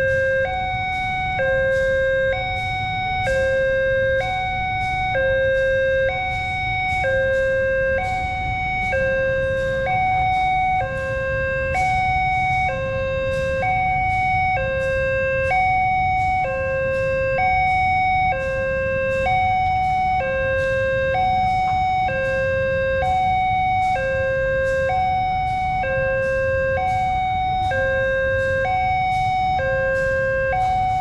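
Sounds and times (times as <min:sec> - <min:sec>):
two-tone crossing alarm: 0:00.0 - 0:31.0.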